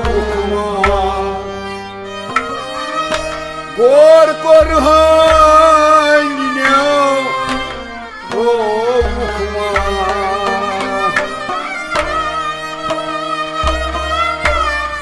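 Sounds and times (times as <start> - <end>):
bowed string melody: 0.0 - 15.0
harmonium notes: 0.0 - 15.0.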